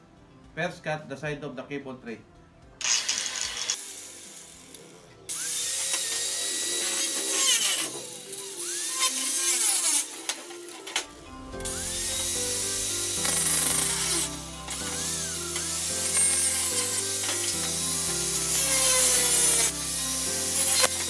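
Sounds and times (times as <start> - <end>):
background music: 0.0 - 21.0
angle grinder cutting metal: 2.8 - 21.0.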